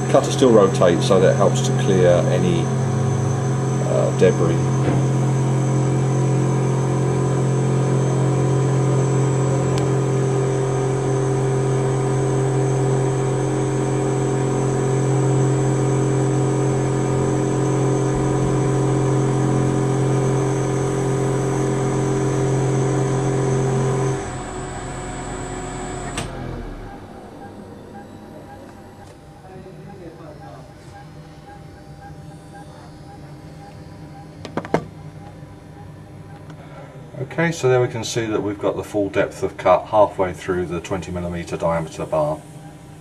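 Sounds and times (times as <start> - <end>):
milling machine motor hum: 0.0 - 37.4
high spindle whine: 0.0 - 43.0.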